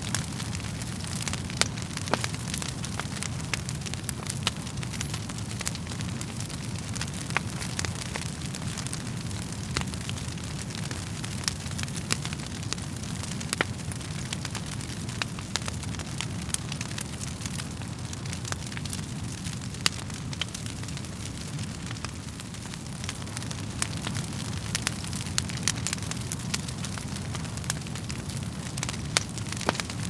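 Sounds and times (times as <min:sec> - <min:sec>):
burning logs popping: 0:00.0 - 0:30.0
wood fire crackling: 0:00.0 - 0:30.0.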